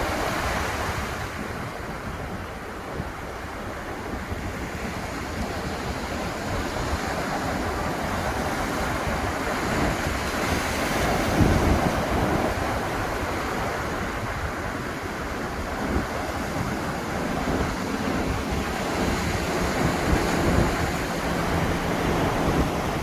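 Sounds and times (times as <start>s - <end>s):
waves breaking on beach: 0.0s - 23.0s
wind on microphone: 0.0s - 23.0s.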